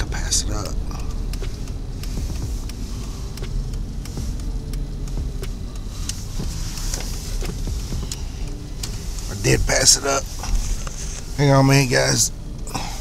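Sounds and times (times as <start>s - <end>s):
car engine and road rumble: 0.0s - 13.0s
faint ticks: 0.4s - 11.4s.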